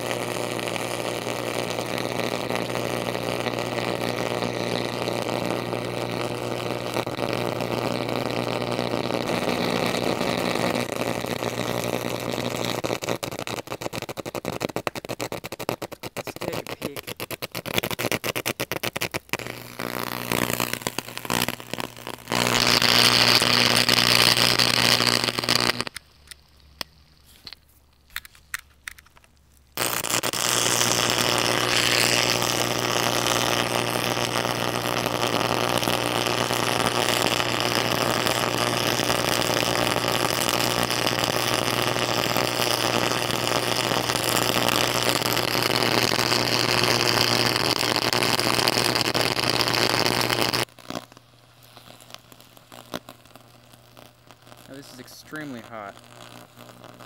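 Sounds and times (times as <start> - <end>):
electric arc buzzing and crackling: 0.0 - 57.0.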